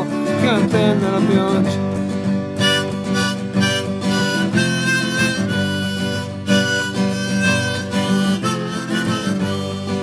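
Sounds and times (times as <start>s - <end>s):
harmonica melody: 0.0s - 10.0s
strummed guitar: 0.0s - 10.0s.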